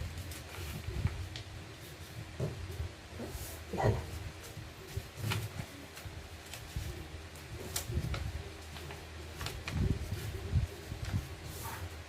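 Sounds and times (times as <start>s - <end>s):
paper rustling and crackling: 0.0s - 12.0s.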